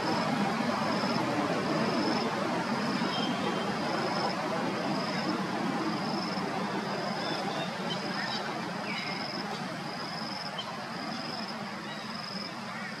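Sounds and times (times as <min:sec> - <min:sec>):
outdoor background noise: 0:00.0 - 0:13.0
high-pitched insect call: 0:00.9 - 0:13.0.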